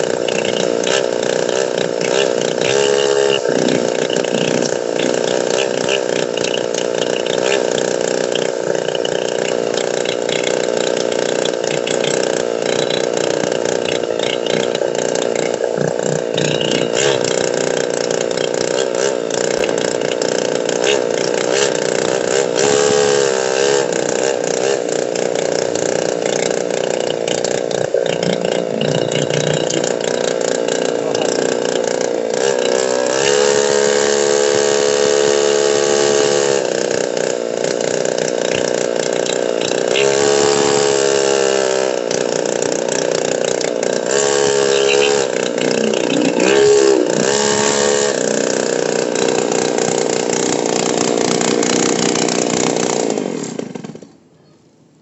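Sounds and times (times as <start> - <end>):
road noise: 0.0 - 53.3
motorcycle engine accelerating: 0.0 - 53.9.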